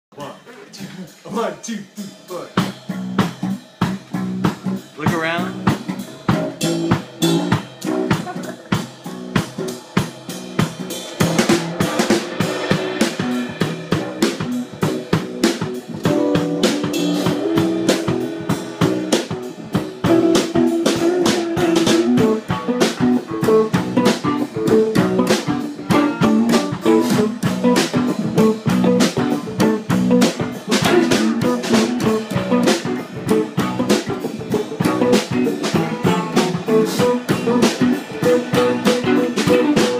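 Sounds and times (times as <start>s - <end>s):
drum kit playing steady beat: 0.1s - 39.9s
electric guitar strumming chords: 2.0s - 10.5s, 11.2s - 39.9s.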